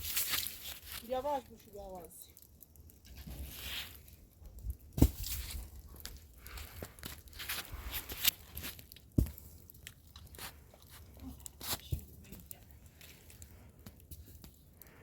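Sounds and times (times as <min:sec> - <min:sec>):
rustling and crunching: 0:00.0 - 0:15.0.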